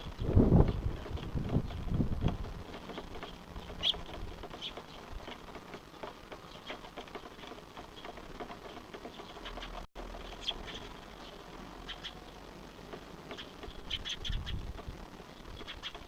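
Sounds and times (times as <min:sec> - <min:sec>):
small birds chirping: 0:00.0 - 0:16.0
soft ticking and pattering: 0:00.0 - 0:16.0.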